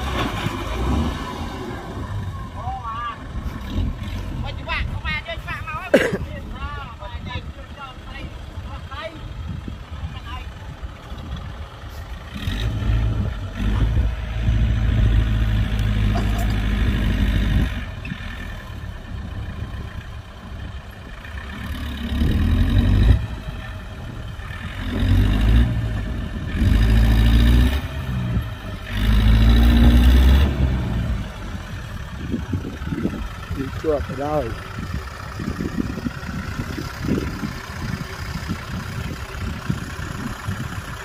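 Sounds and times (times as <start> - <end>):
tractor diesel engine revving: 0.0 - 41.0.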